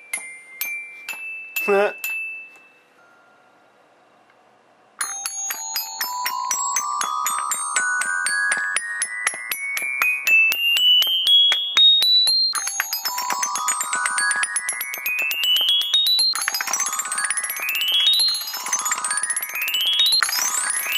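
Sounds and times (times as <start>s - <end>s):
robotic glockenspiel rising notes: 0.0s - 3.8s, 5.0s - 20.9s.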